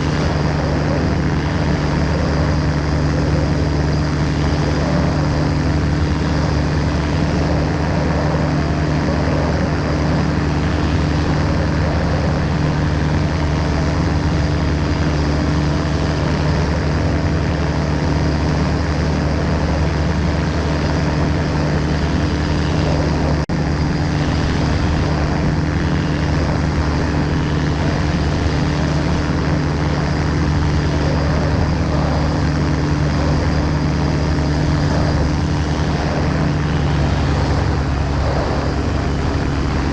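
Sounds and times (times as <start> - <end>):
aircraft engine and propeller: 0.0 - 39.9.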